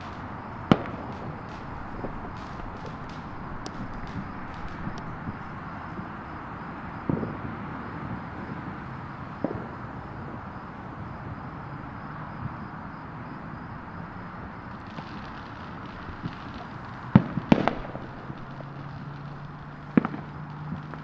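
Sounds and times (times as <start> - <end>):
distant highway traffic: 0.0 - 21.0.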